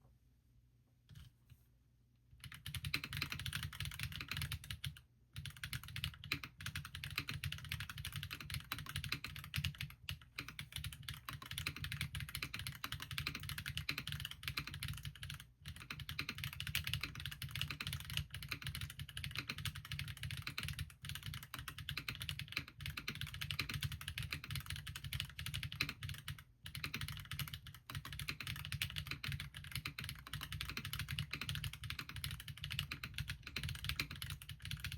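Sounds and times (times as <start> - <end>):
mechanical keyboard typing: 2.4 - 34.9.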